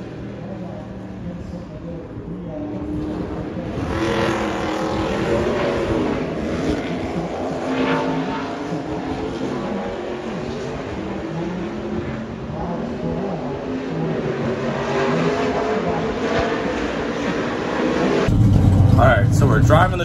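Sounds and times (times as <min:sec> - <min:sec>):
race truck engine: 0:00.0 - 0:20.0.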